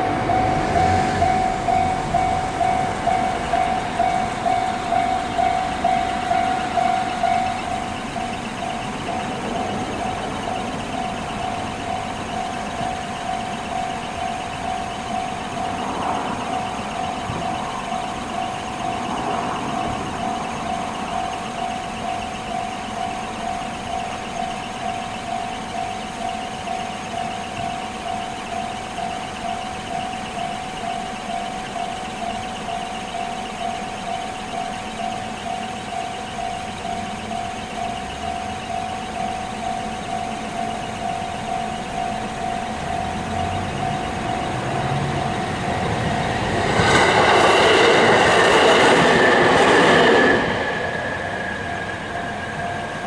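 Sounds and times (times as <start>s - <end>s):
level-crossing warning bell ringing: 0.0s - 53.0s
train passing over crossing: 0.0s - 53.0s.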